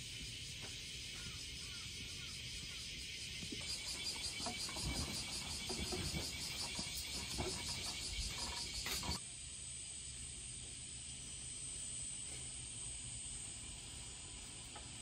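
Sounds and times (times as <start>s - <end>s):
cicadas chorus: 0.0s - 15.0s.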